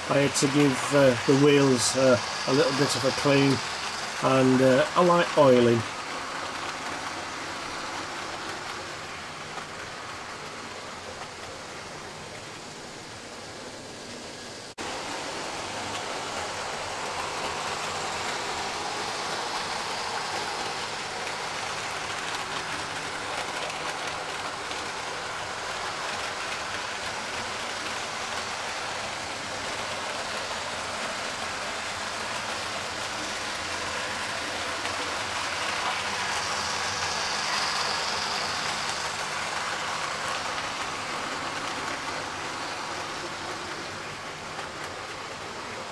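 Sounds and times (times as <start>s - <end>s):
wheels rolling on rail: 0.0s - 45.9s.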